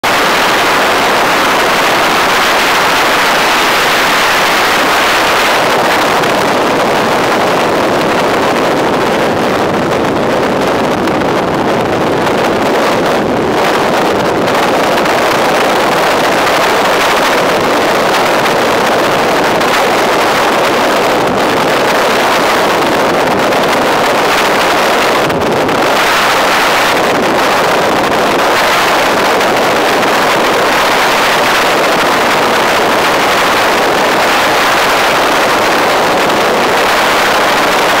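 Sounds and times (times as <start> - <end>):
helicopter in flight: 0.0 - 38.0
wind buffeting microphone: 0.0 - 38.0.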